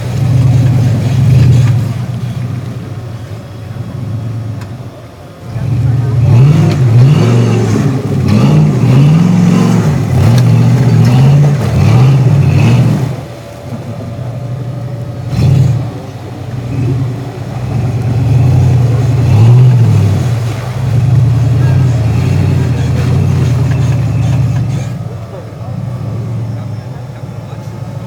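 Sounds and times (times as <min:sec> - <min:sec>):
engine revving under load: 0:00.0 - 0:28.0.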